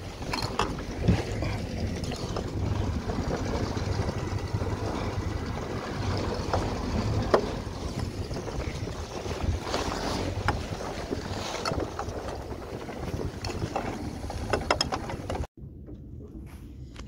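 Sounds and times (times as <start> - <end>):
wind on microphone: 0.0 - 15.5
outboard motor rumbling: 0.0 - 16.4
water against hull: 0.0 - 16.5.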